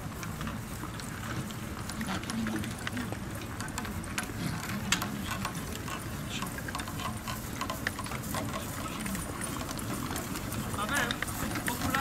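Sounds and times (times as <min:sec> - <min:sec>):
harness and cart rattling: 0:00.0 - 0:12.0
horse hooves clicking on turf: 0:00.0 - 0:12.0
low background murmur: 0:00.0 - 0:12.0.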